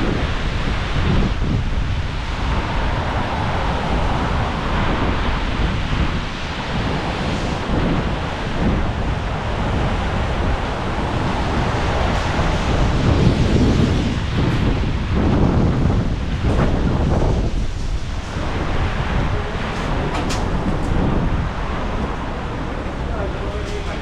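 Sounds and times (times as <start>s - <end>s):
storm wind gusting: 0.0s - 24.0s.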